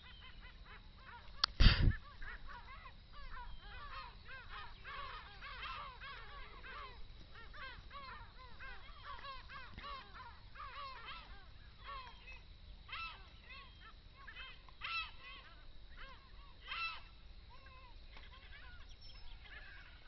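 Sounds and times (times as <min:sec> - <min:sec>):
flock of birds calling: 0:00.0 - 0:20.0.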